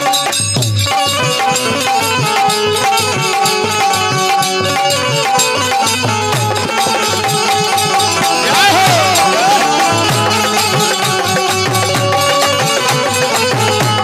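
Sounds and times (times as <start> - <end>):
harmonium chords: 0.0 - 14.0
indian banjo melody: 0.0 - 14.0
small brass hand cymbals: 0.0 - 14.0.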